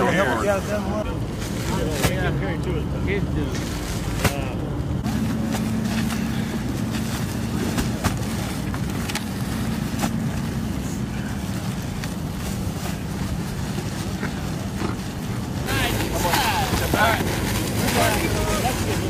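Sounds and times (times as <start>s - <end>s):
low engine hum: 0.0s - 19.0s
sandbags being handled: 3.4s - 19.0s.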